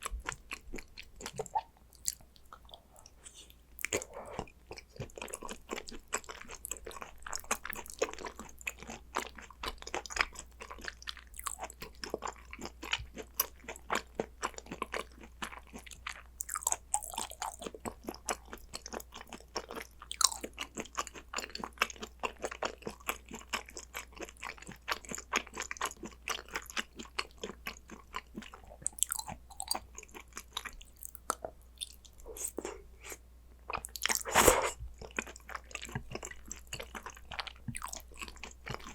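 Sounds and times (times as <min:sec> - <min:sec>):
chewing with clicks and smacks: 0:00.0 - 0:34.3, 0:34.9 - 0:38.9.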